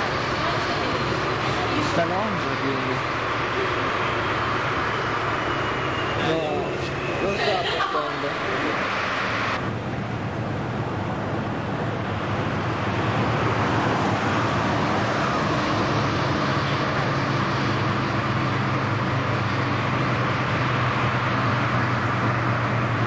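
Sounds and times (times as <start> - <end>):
car engine hum: 0.0 - 23.0
road and wind noise: 0.0 - 23.0.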